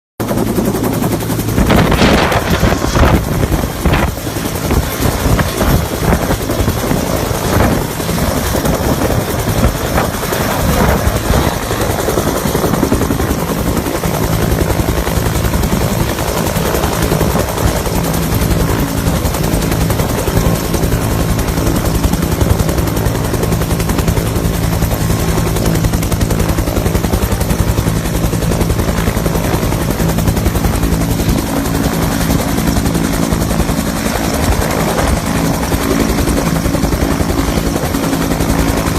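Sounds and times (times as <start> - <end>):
helicopter rotor chop: 0.2 - 38.9.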